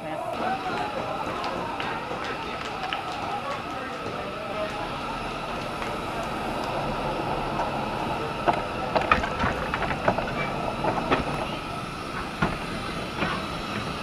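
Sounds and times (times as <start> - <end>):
steady hiss of steam: 0.0 - 14.0.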